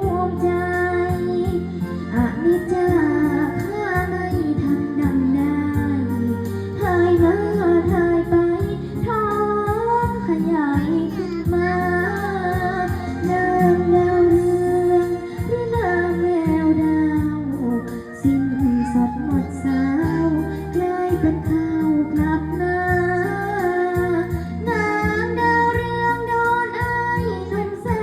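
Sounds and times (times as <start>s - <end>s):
backing music: 0.0s - 28.0s
girl singing: 0.0s - 28.0s.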